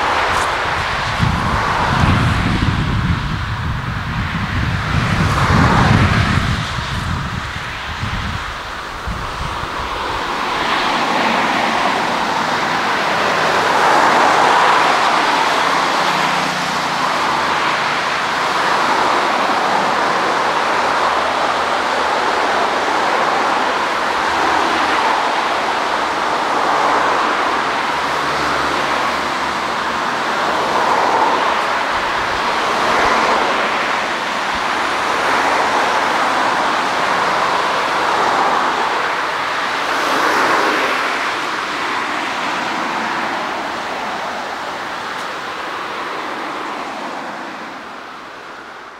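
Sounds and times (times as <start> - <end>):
jet engines rushing: 0.0 - 48.9.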